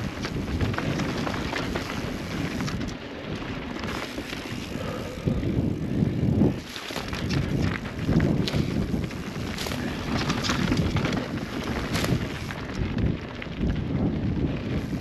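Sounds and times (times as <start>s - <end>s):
bike rattling over rough ground: 0.0s - 15.0s
bike tyre noise: 0.0s - 15.0s
wind buffeting microphone: 0.0s - 15.0s.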